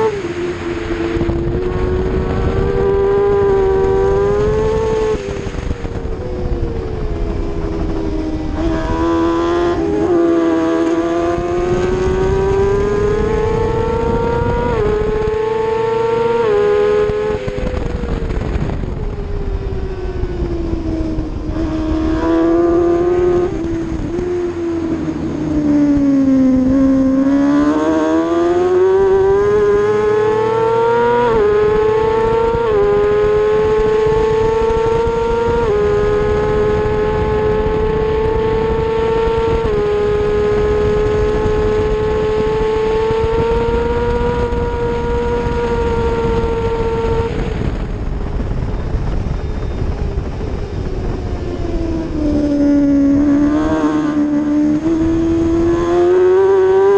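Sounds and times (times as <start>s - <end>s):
motorcycle engine revving high: 0.0s - 56.9s.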